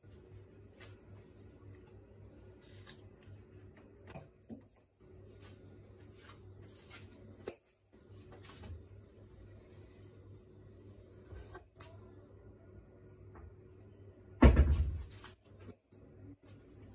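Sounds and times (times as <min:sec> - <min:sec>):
faint low hum: 0:00.0 - 0:16.9.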